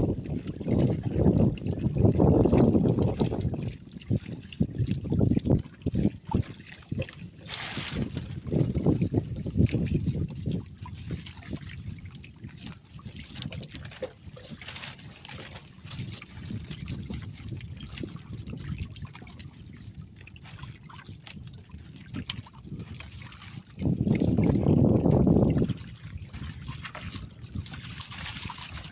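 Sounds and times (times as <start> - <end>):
sea water lapping around boat: 0.0 - 28.9
small splashes and knocks: 0.0 - 28.9.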